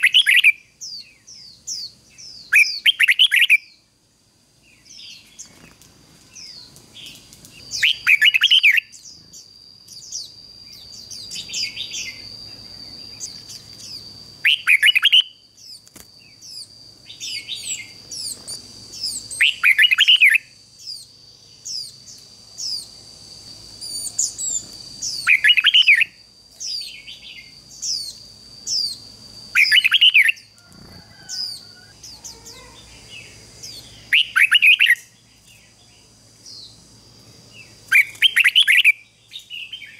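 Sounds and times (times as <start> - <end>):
high bird chirps: 0.0 - 3.8, 6.3 - 23.0, 23.8 - 35.8, 37.6 - 39.9
bird singing: 0.0 - 39.9.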